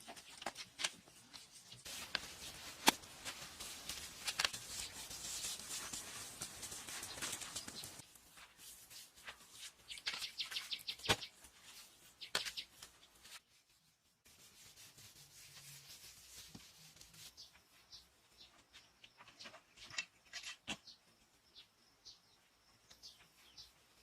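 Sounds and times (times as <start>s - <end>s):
scraping and rubbing strokes: 0.0s - 20.8s.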